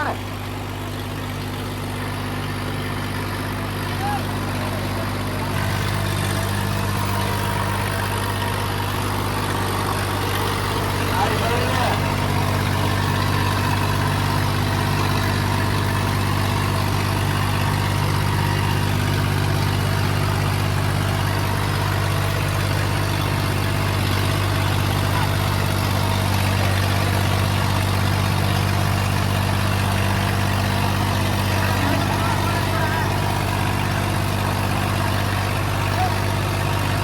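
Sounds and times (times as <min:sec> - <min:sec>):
tractor diesel engine droning: 0:00.0 - 0:37.0.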